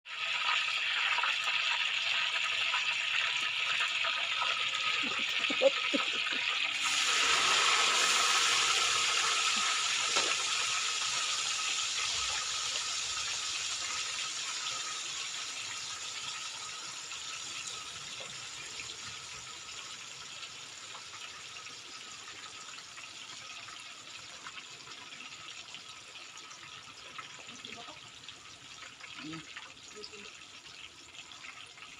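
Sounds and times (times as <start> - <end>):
tofu sizzling in hot oil: 0.1 - 31.9.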